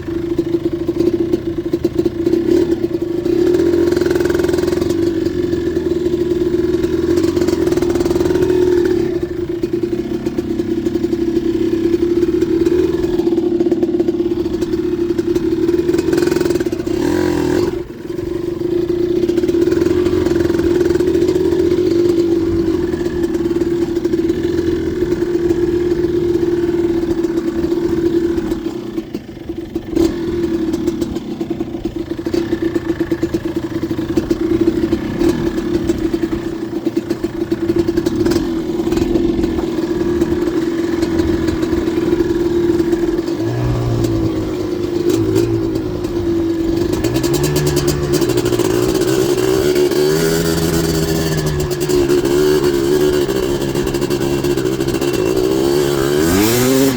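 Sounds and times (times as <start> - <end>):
two-stroke engine at full throttle: 0.0 - 56.9.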